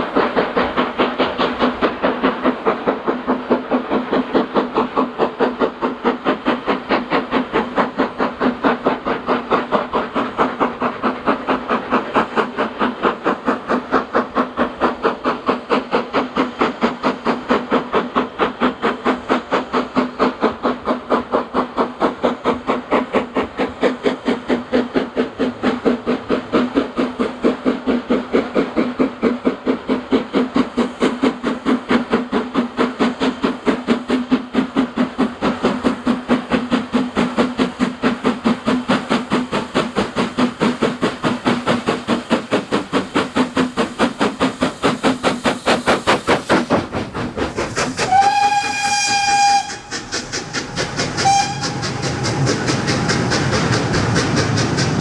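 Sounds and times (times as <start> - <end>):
steam hiss: 0.0 - 55.0
steam locomotive exhaust beats: 0.0 - 55.0.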